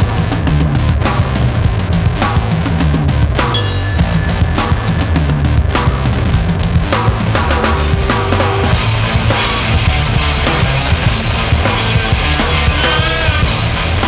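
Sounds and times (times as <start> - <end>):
punk rock music: 0.0 - 14.0
steady drum beat: 0.0 - 14.0.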